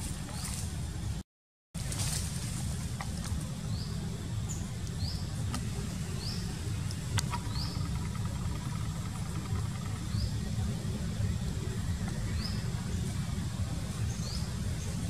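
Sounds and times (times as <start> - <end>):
low rumble: 1.8 - 15.0.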